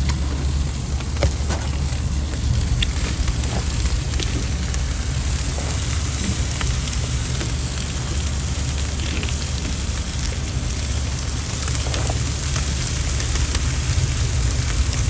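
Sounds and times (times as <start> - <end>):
charcoal grill crackling and sizzling: 0.0 - 15.0
low rumble: 0.0 - 15.0.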